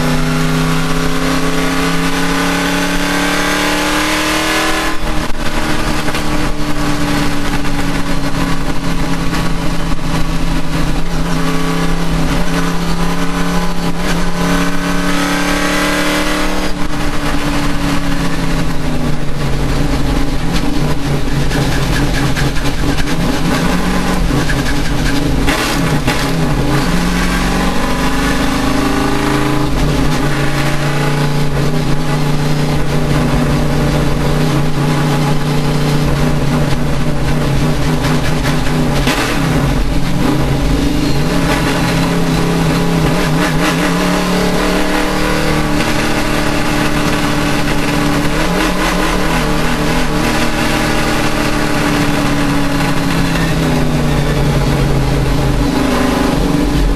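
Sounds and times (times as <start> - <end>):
race car engine accelerating: 0.0 - 56.9.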